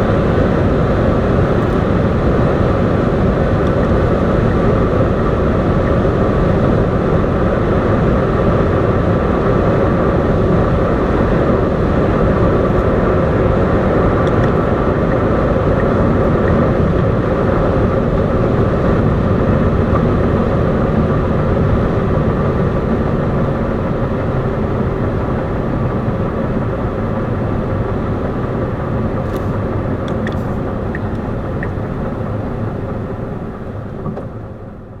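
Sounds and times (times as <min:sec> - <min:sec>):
car road and wind noise: 0:00.0 - 0:35.0
faint steady whine: 0:00.0 - 0:35.0.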